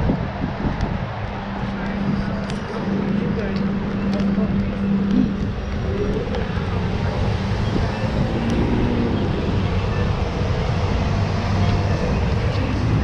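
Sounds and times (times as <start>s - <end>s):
road traffic noise: 0.0s - 13.0s
vehicle engine hum: 0.0s - 13.0s.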